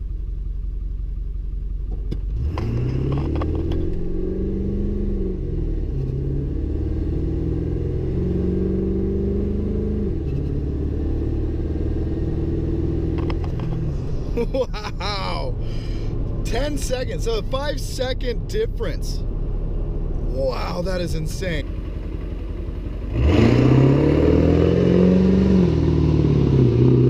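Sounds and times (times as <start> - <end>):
diesel truck engine revving: 2.2 - 27.0.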